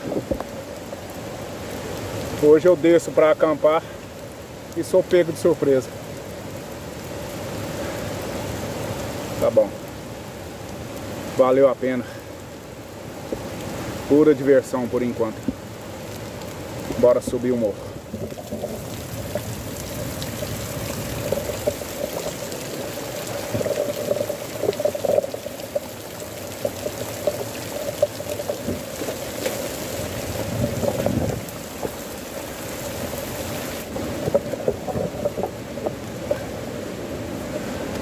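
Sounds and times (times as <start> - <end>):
heavy rain: 0.0 - 38.0
water pouring and rushing: 0.0 - 38.0.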